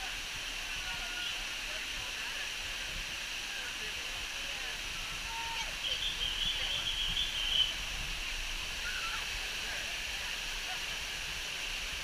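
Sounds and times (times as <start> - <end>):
faint voices of people: 0.0 - 12.0
water rushing over waterfall: 0.0 - 12.0.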